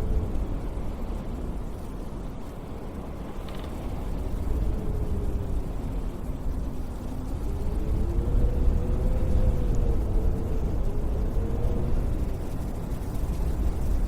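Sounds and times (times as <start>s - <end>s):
howling whistle of wind: 0.0s - 14.0s
strong wind gusting: 0.0s - 14.0s.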